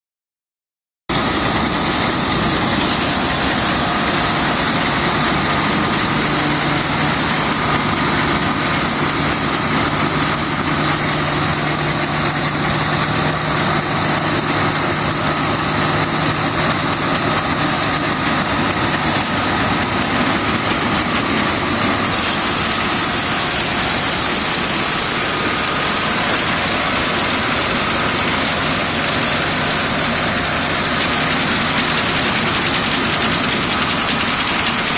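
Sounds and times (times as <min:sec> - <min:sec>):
combine harvester droning: 0:01.1 - 0:34.9
machinery hiss: 0:01.1 - 0:34.9.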